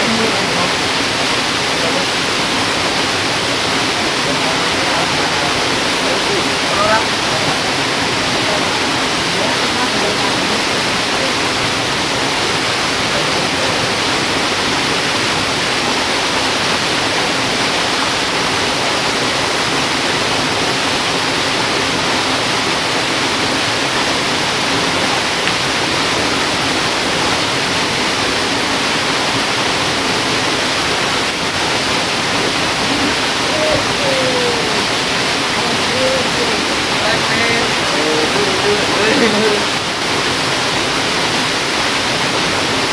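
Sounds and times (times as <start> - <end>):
flowing river water: 0.0 - 42.9.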